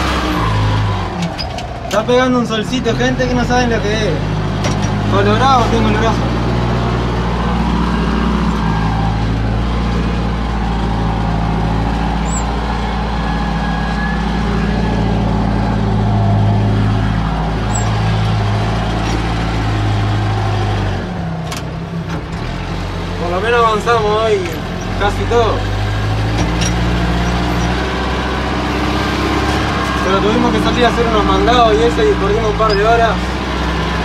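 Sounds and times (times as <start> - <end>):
backhoe engine running: 0.0 - 34.0.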